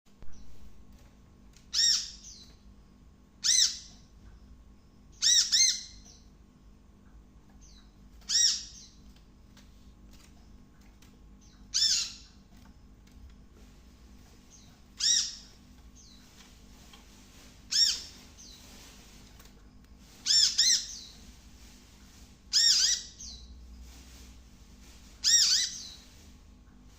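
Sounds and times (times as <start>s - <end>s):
faint steady hum: 0.1s - 26.9s.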